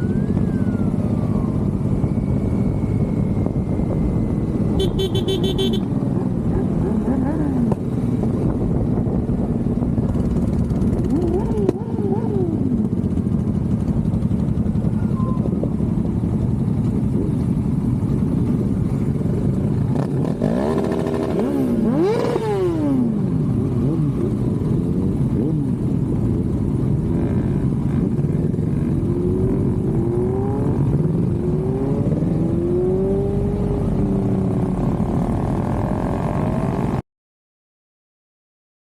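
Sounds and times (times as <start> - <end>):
motorcycle engines revving: 0.0 - 37.0.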